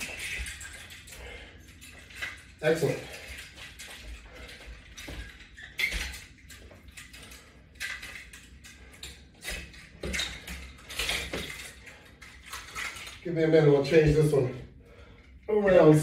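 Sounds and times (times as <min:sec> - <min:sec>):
metal clips clinking and clattering: 0:00.0 - 0:13.2.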